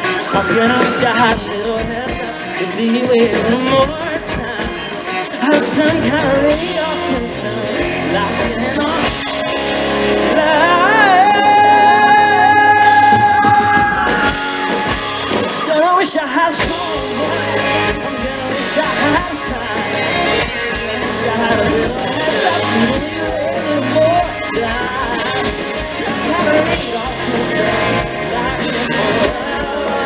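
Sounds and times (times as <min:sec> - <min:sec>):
live country-pop band playing: 0:00.0 - 0:30.0
man singing lead vocal: 0:00.0 - 0:30.0.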